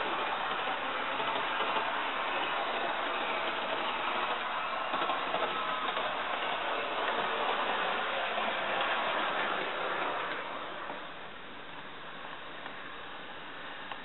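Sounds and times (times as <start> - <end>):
model train motor whirring: 0.0 - 11.3.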